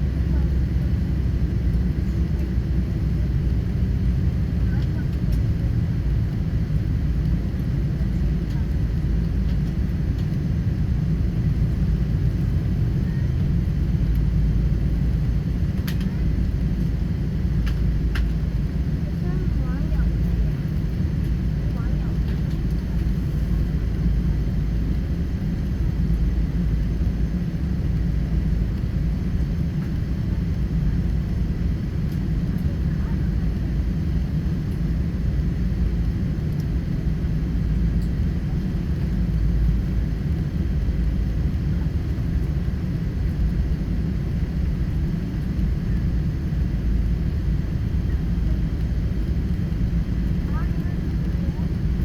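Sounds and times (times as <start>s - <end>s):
airliner cabin engine rumble: 0.0s - 52.0s.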